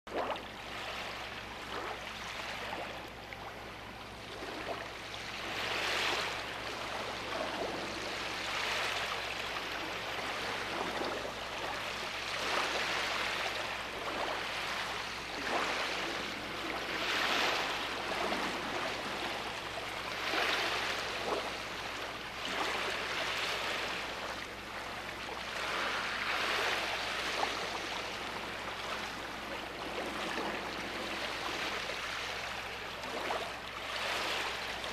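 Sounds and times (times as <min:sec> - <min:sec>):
sea waves breaking on beach: 0:00.1 - 0:34.9.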